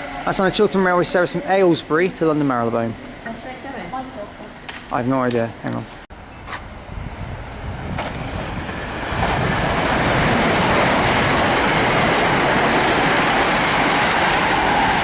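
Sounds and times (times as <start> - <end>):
diesel trains passing at speed: 0.0 - 4.9, 6.0 - 15.0.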